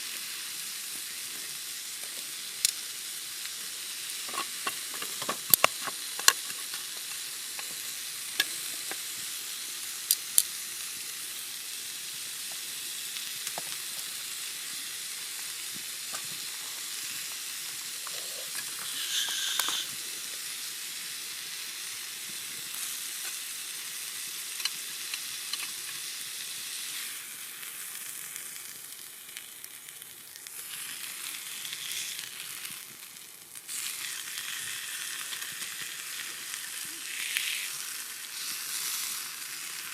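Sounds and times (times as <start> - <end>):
steak sizzling on a griddle: 0.0 - 39.9.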